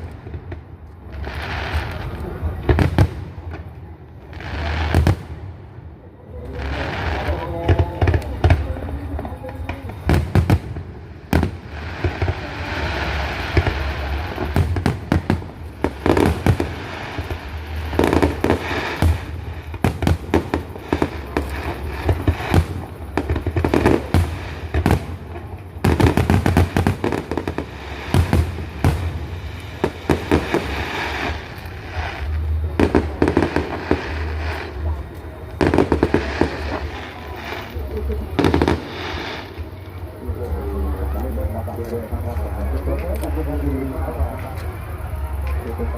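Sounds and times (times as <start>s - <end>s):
fireworks crackling: 0.0s - 45.9s.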